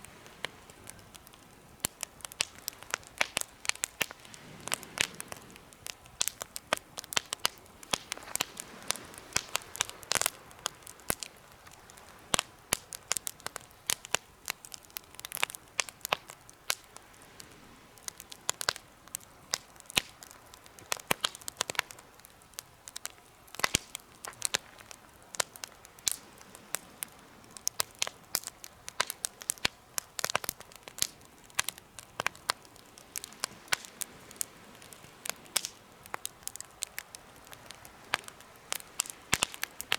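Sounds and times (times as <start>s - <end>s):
campfire crackling and popping: 0.0s - 39.9s
soft steady fire hiss: 0.0s - 39.9s.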